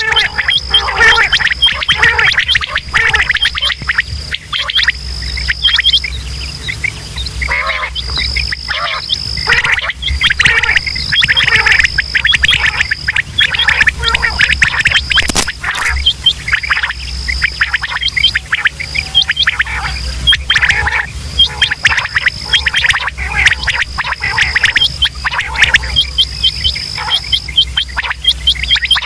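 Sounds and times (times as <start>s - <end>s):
high steady whine: 0.0s - 29.0s
quail calling: 0.0s - 29.0s.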